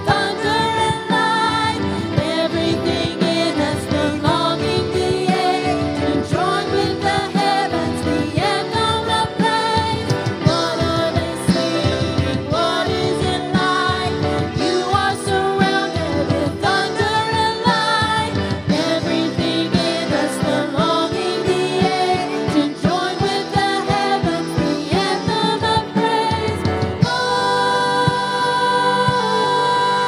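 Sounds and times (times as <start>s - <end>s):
person singing with vibrato: 0.0s - 30.0s
sustained instrumental accompaniment: 0.0s - 30.0s.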